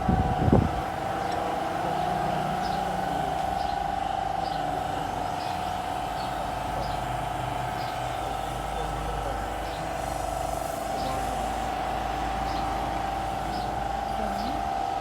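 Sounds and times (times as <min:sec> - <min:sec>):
machine hum with flutter: 0:00.0 - 0:15.0.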